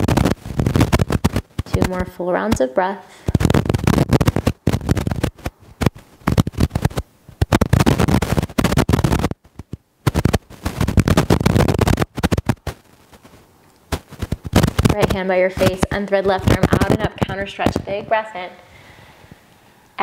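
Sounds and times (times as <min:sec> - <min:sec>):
microphone crackling and popping: 0:00.0 - 0:19.6.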